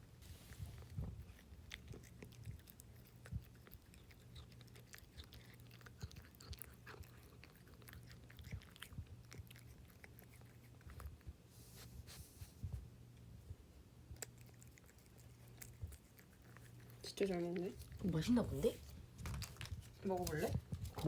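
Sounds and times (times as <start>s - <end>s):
cat chewing food: 0.2s - 21.0s.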